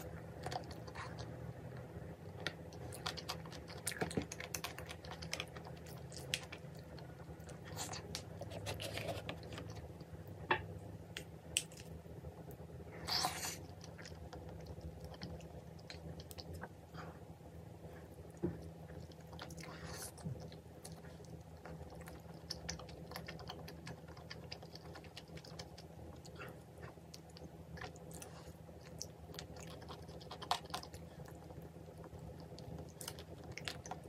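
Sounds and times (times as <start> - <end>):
person chewing and crunching food: 0.0 - 10.2, 13.0 - 17.3, 18.0 - 34.0.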